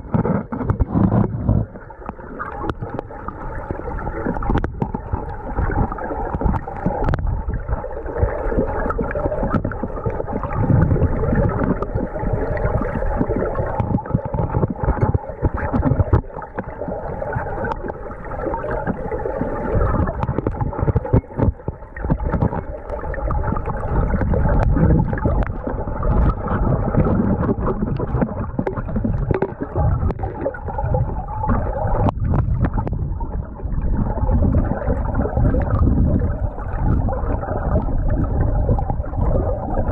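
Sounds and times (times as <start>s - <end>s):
underwater river current: 0.0s - 39.9s.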